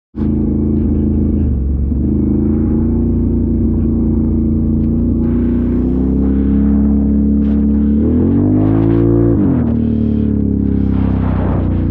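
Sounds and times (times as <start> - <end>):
off-road vehicle engine running: 0.1 - 11.9.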